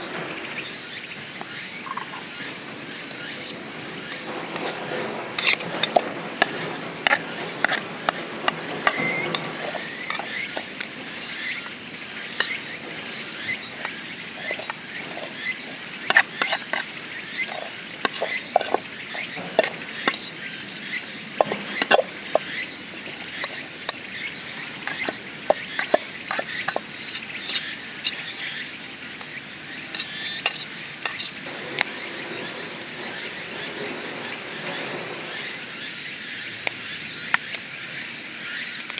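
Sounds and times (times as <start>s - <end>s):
utensils scraping a pan: 2.6s - 28.6s, 29.9s - 36.0s.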